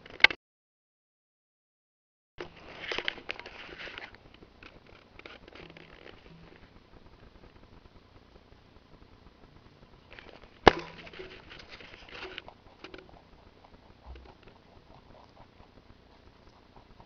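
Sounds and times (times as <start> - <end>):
rabbits nibbling and crunching: 2.4 - 17.0.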